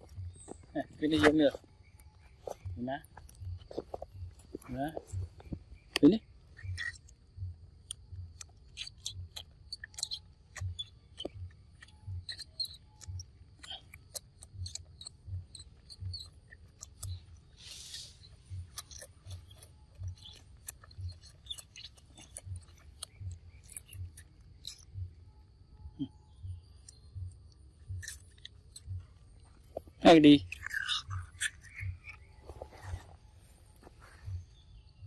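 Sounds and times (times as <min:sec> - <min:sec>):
monkey licking and chewing: 0:00.0 - 0:25.2, 0:26.7 - 0:34.4.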